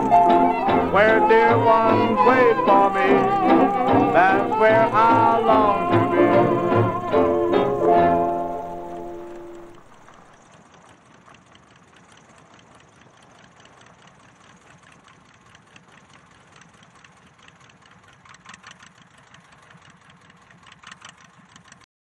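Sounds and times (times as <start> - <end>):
propeller engine idling: 0.0 - 21.9.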